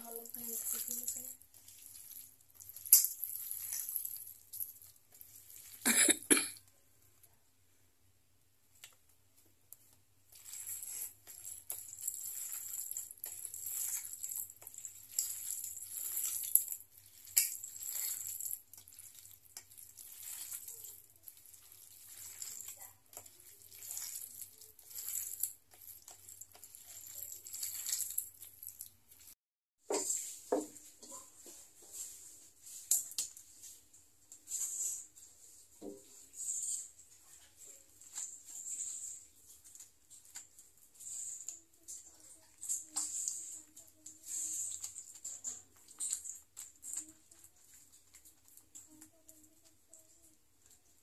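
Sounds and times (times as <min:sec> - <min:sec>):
hand mixing meat in steel bowl: 0:00.0 - 0:05.8, 0:10.2 - 0:51.0.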